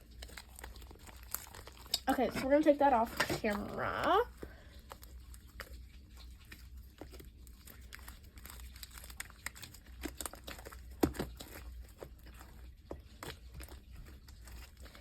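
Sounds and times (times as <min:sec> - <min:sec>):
slime crackling and clicking: 0:00.0 - 0:04.2, 0:05.4 - 0:14.9.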